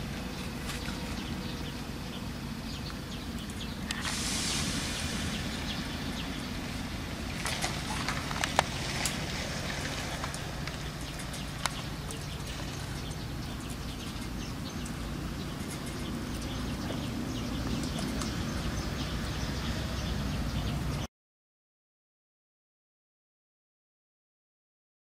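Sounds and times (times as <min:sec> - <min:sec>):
small birds chirping: 0:00.0 - 0:21.1
steady low rumble: 0:00.0 - 0:21.1.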